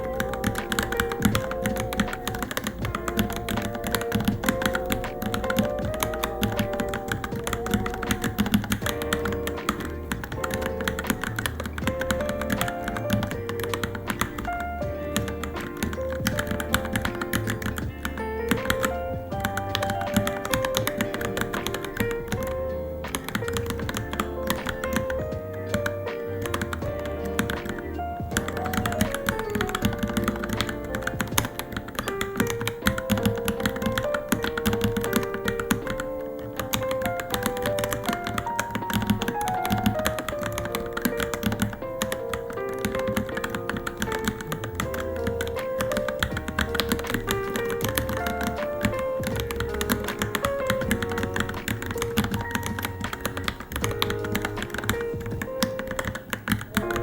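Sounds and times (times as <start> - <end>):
background music: 0.0 - 57.0
mechanical keyboard typing: 0.0 - 57.0.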